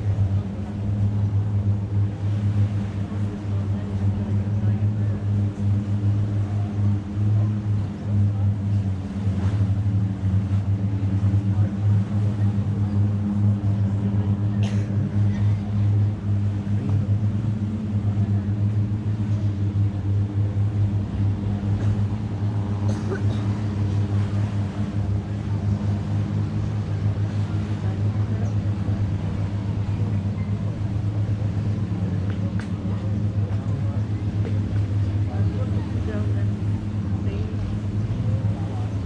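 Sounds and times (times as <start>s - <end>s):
boat engine idling: 0.0s - 39.0s.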